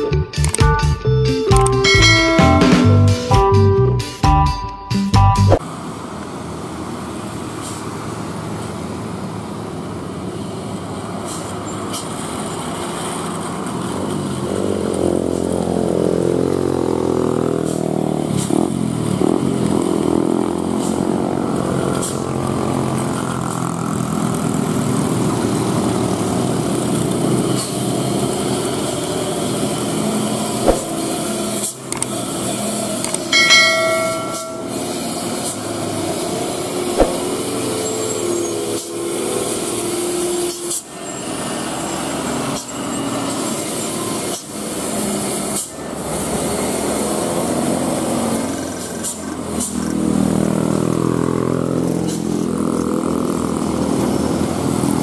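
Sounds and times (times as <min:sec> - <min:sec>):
diesel trucks labouring uphill: 0:00.0 - 0:55.0.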